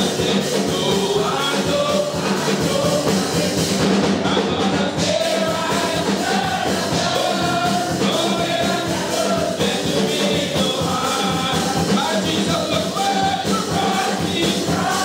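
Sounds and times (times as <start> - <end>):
live band accompaniment: 0.0 - 15.0
men's vocal group singing gospel: 0.0 - 15.0
steady drum beat: 0.0 - 15.0.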